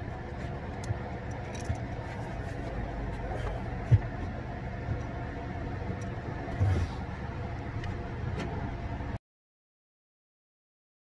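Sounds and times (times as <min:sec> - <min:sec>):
low mechanical hum: 0:00.0 - 0:09.2.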